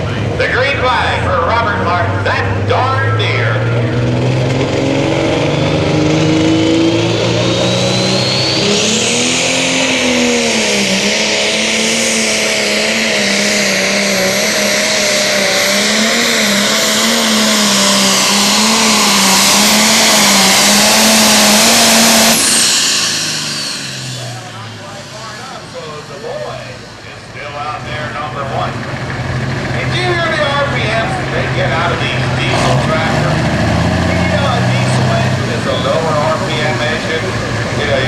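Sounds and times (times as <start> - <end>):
diesel tractor engine at full power: 0.0 - 38.0
turbocharger whine: 0.0 - 38.0.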